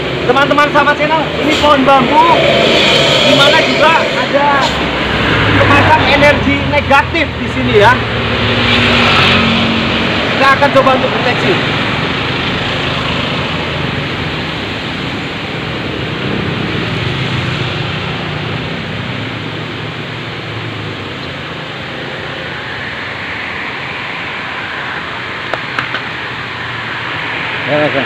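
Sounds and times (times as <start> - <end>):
low engine drone: 0.0 - 28.0
passing road traffic: 0.0 - 28.0.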